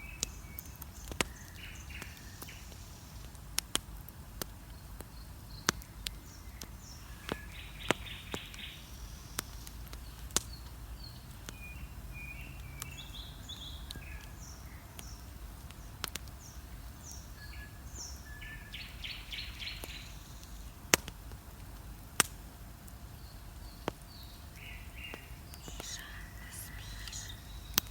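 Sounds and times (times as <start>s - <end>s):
birds singing: 0.0s - 3.4s, 4.7s - 20.8s, 23.1s - 27.9s
bonfire crackling and popping: 0.0s - 27.9s.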